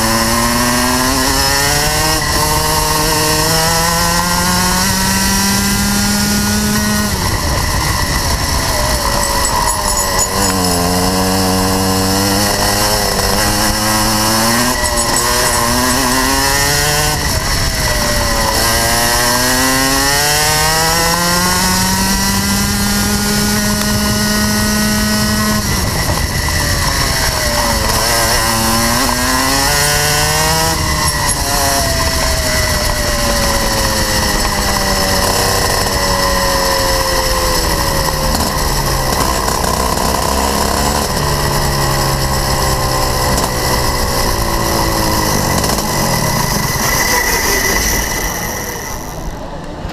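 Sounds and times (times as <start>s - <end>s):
kart engine revving: 0.0s - 49.9s.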